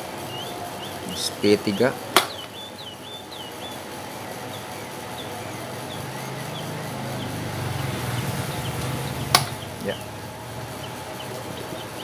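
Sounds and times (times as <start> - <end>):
desk fan humming: 0.0 - 12.0
small birds chirping: 0.0 - 12.0.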